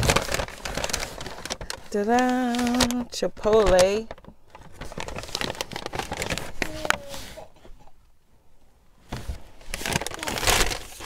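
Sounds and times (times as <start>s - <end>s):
paper bag rustling: 0.0s - 7.5s, 9.1s - 11.0s.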